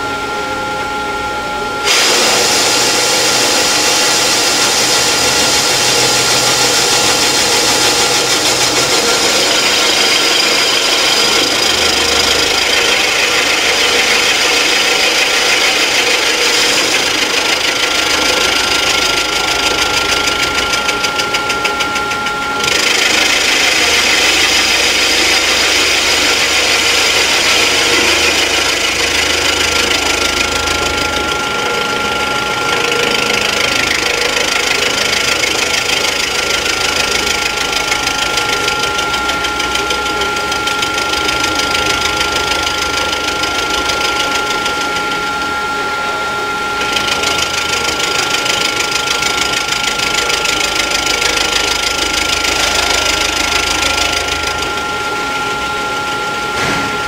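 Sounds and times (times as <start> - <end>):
milling machine cutting metal: 1.8 - 57.0.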